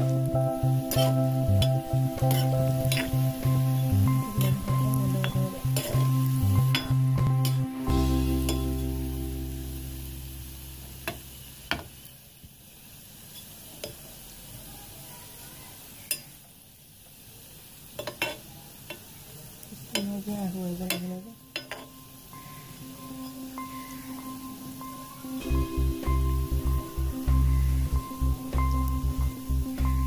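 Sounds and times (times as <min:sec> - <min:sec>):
food sizzling in deep oil: 0:00.0 - 0:30.0.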